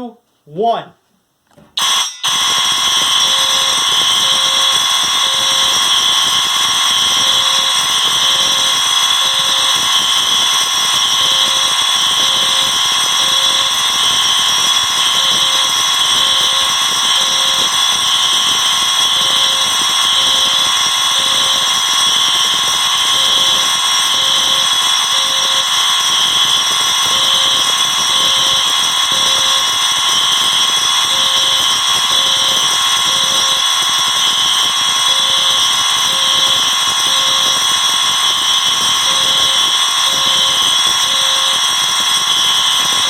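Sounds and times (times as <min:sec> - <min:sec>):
fire alarm din: 0:01.8 - 0:43.0.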